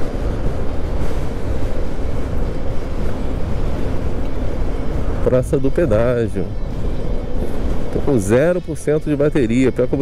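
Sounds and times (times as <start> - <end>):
road noise: 0.0 - 10.0
wind buffeting microphone: 0.0 - 10.0.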